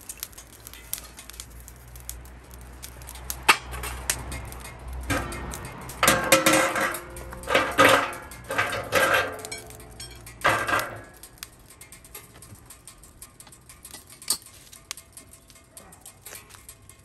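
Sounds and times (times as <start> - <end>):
metal clanking and scraping: 2.8 - 17.0.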